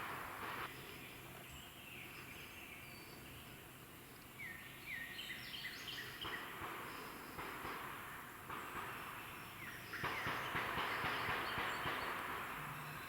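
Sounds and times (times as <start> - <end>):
faint outdoor background hiss: 0.0 - 13.0.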